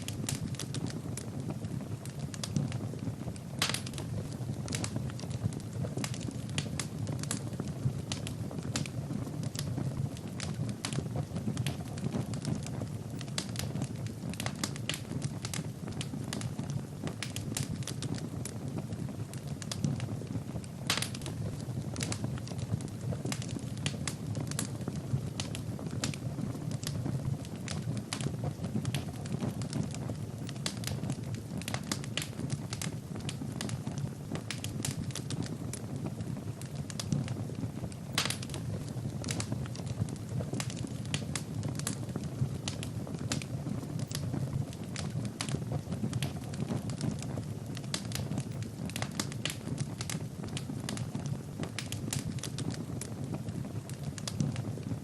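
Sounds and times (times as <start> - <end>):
firewood crackling and popping: 0.0 - 55.0
low rush of flame: 0.0 - 55.0.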